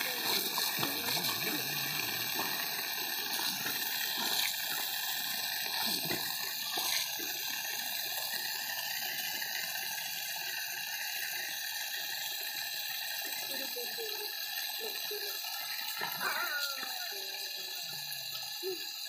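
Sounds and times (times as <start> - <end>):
water jet hissing from hose: 0.0 - 19.0.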